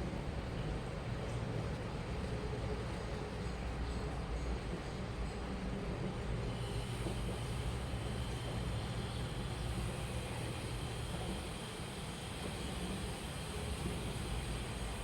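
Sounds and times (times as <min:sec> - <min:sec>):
washing machine hum and rumble: 0:00.0 - 0:15.0.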